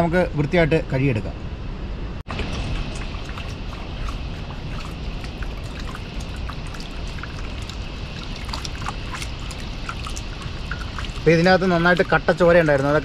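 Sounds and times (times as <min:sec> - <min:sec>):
water pouring and trickling: 0:02.3 - 0:13.0
water splashes and drips: 0:02.3 - 0:13.0.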